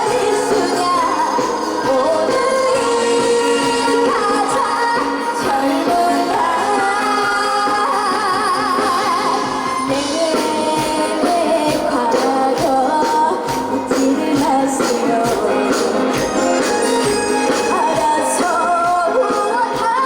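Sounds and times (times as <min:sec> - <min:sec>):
steady percussion: 0:00.0 - 0:20.0
woman singing over backing track: 0:00.0 - 0:20.0.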